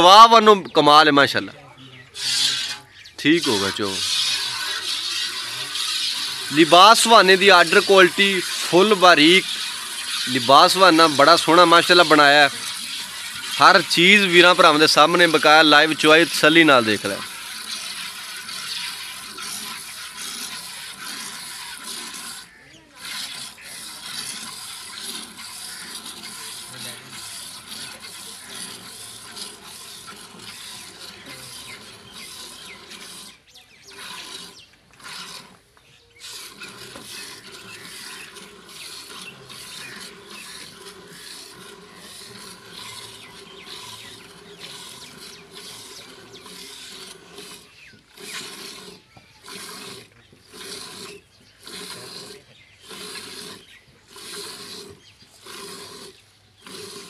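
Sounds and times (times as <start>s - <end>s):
milk squirting into a steel bucket: 2.2s - 35.6s, 36.2s - 57.0s.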